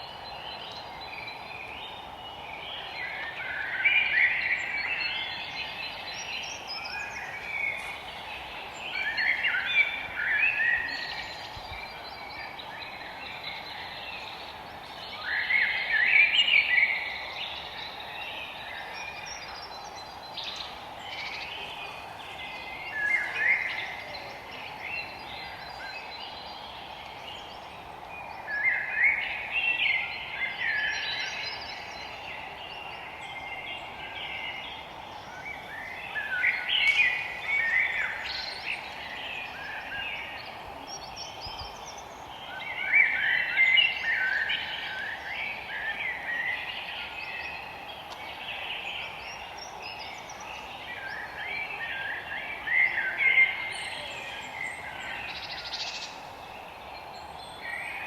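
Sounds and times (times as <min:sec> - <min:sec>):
birds chirping: 0:00.0 - 0:58.0
steady background hiss: 0:00.0 - 0:58.0.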